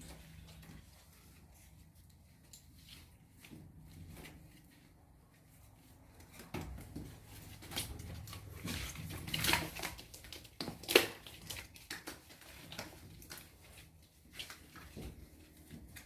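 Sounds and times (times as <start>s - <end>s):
knocks and rustles: 0.0s - 16.0s.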